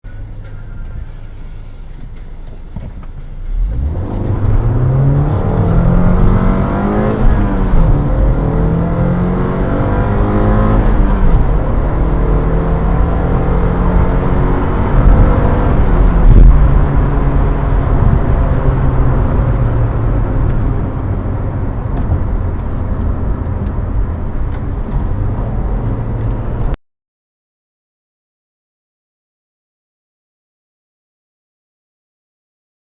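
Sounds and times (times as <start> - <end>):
tyre and road noise: 0.0 - 26.8
car engine accelerating: 0.1 - 26.8.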